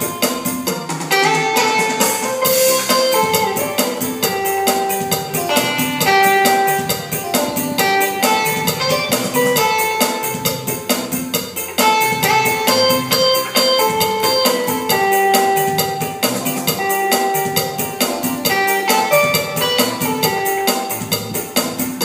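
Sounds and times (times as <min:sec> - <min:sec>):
keyboard cha-cha-cha music: 0:00.0 - 0:22.0.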